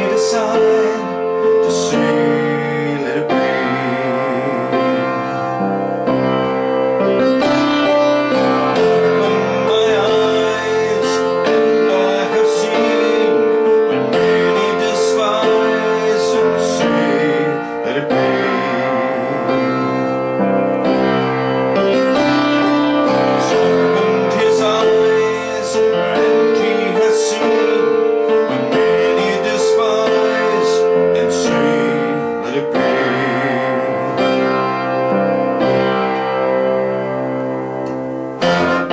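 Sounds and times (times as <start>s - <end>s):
voices singing: 0.0s - 6.2s, 7.1s - 36.2s
piano and keyboard accompaniment: 0.0s - 38.9s.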